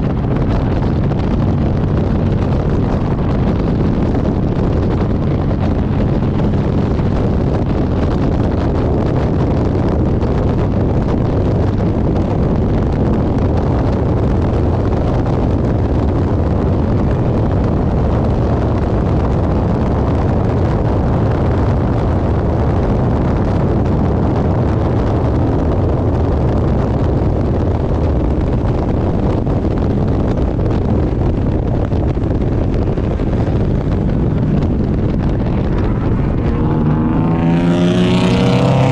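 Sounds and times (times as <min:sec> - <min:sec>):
race car engine running: 0:00.0 - 0:38.9
wind noise: 0:00.0 - 0:38.9.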